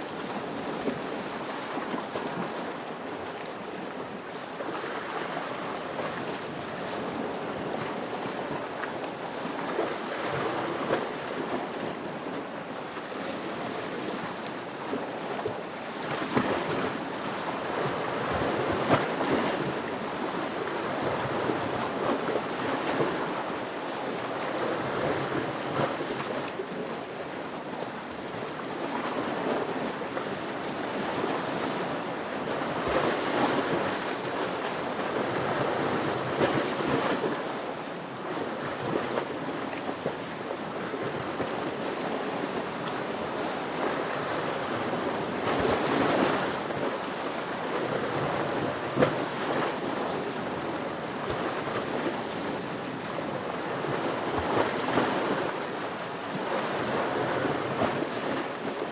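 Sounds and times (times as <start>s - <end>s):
ocean waves and surf: 0.0s - 58.9s.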